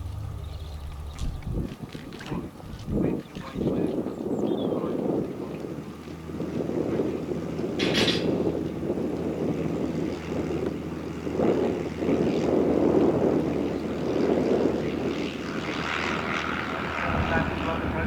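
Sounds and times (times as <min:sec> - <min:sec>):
propeller engine running: 0:00.0 - 0:18.0
wind buffeting microphone: 0:00.0 - 0:18.0.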